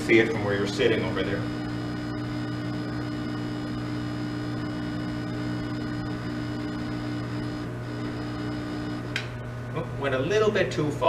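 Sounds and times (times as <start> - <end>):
machine electrical hum: 0.0 - 11.0.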